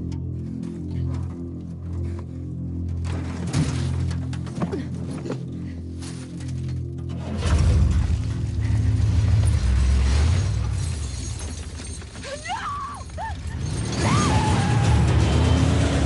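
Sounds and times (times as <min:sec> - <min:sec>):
deep rumbling trailer music: 0:00.0 - 0:12.2, 0:13.3 - 0:16.0.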